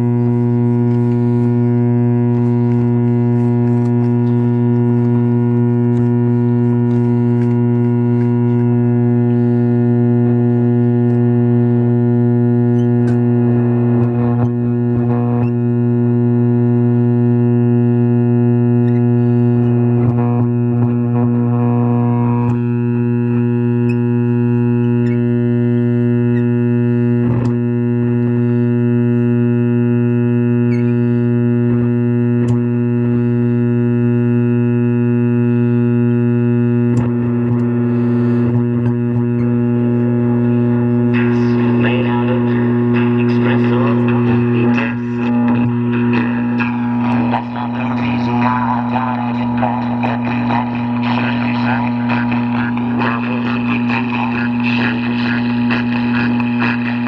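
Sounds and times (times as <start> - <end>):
crackle bursts: 0.0 - 57.0
loud mains hum from radio speaker: 0.0 - 57.0.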